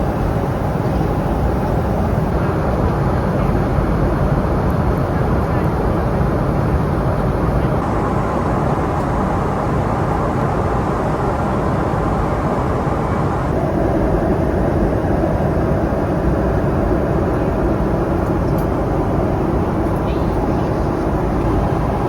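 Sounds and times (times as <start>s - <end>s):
jet airliner cabin noise: 0.0s - 22.0s.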